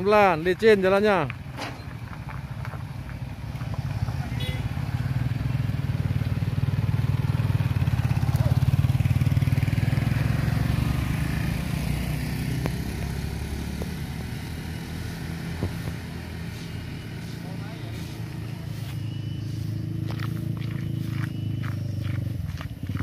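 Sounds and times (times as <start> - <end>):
vehicle engine passing by: 1.9 - 23.0.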